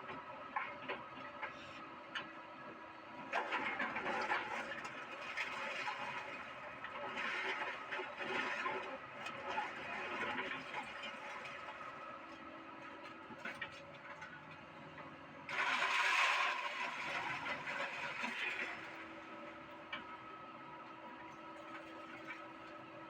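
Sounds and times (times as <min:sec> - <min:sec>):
excavator engine humming: 0:00.0 - 0:23.0.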